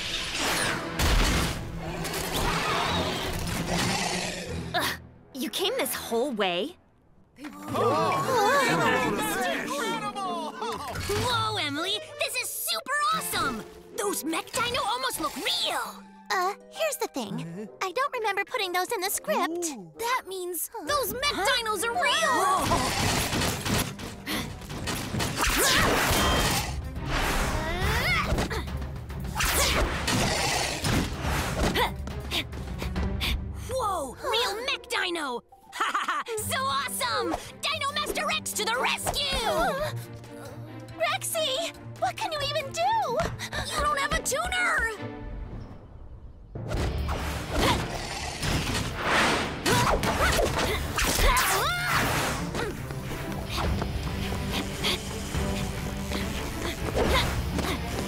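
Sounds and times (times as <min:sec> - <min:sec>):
background music: 0:00.0 - 0:58.0.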